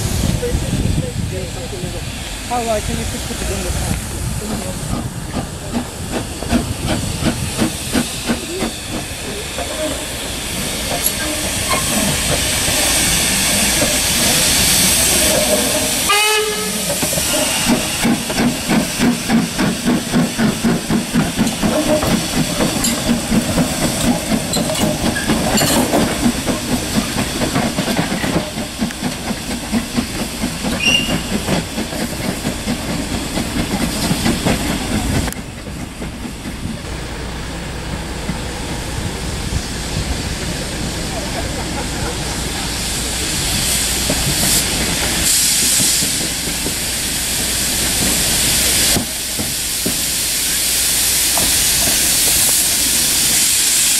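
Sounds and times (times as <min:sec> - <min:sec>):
steam hissing: 0:00.0 - 0:53.9
steam locomotive exhaust chuffs: 0:00.0 - 0:53.9.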